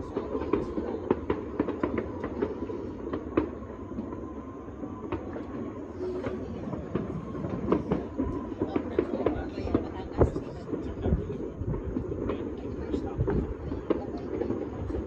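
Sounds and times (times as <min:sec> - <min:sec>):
distant fireworks crackling: 0:00.0 - 0:15.0.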